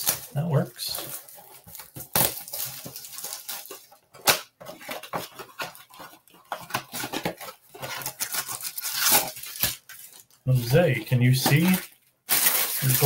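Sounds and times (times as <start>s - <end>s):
plastic crinkling: 0.0s - 13.0s.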